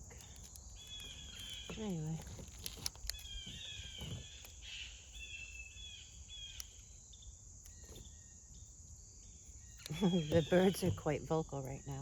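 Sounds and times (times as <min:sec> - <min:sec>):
birds whistling: 0:00.2 - 0:08.6, 0:09.2 - 0:11.4.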